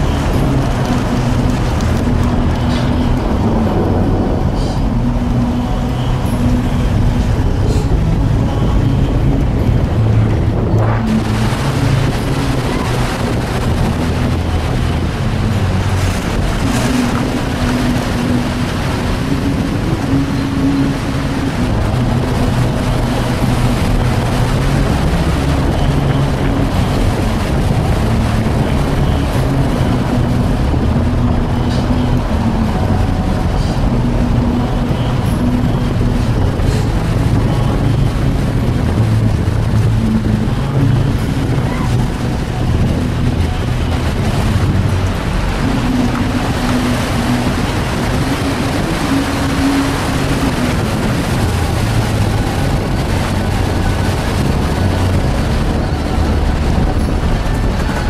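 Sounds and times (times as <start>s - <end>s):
road noise: 0.0s - 58.0s
vehicle engine running under load: 0.0s - 58.0s.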